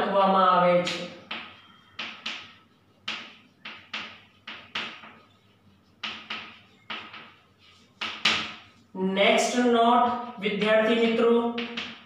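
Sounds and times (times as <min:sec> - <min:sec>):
chalk writing on chalkboard: 0:00.8 - 0:12.0.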